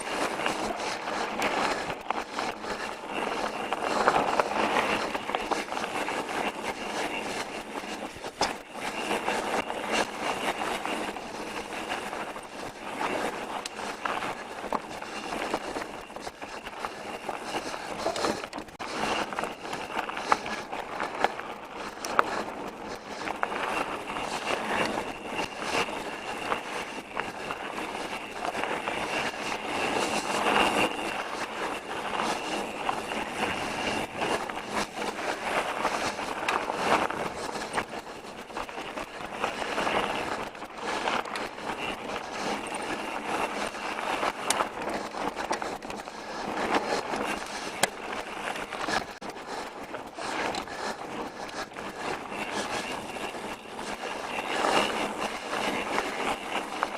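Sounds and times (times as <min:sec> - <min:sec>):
bike clicking and rattling: 0:00.0 - 0:56.9.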